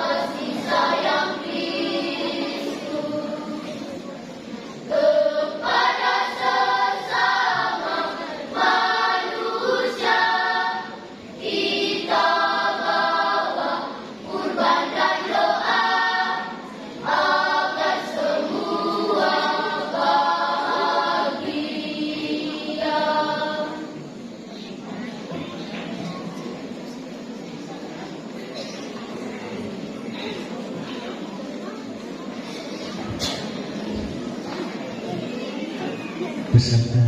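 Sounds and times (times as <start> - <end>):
children's choir singing: 0.0 - 26.8, 27.6 - 37.0.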